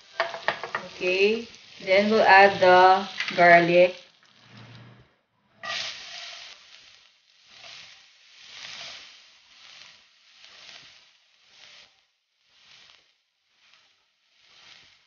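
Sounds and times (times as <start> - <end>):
garlic sizzling in hot oil: 0.0 - 4.5, 5.6 - 15.0.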